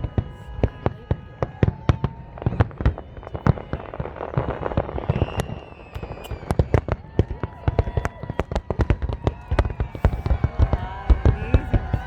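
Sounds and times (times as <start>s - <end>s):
fireworks bursting: 0.0s - 12.0s
fireworks crackling: 0.0s - 12.0s.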